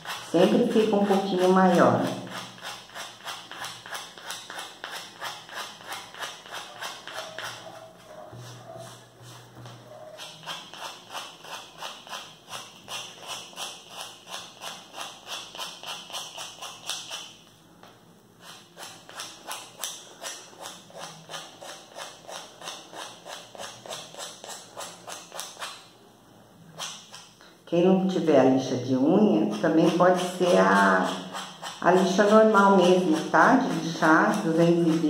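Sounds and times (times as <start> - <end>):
nail file rasping: 0.0 - 17.4, 18.4 - 25.9, 26.8 - 27.4, 29.3 - 35.0.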